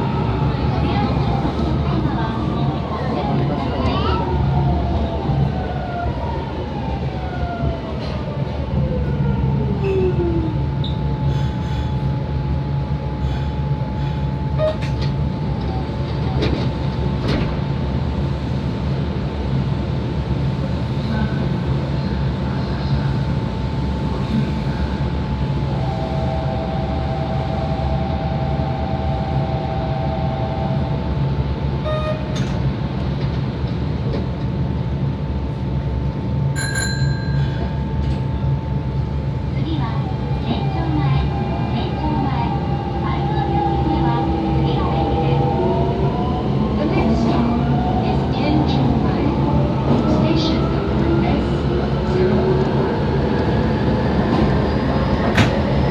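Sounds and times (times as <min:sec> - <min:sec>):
train car running rumble: 0:00.0 - 0:55.9.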